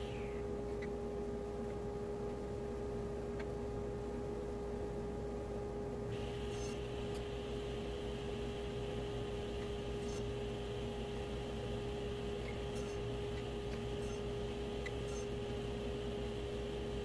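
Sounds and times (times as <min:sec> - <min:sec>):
workshop machine whining drone: 0:00.0 - 0:17.0.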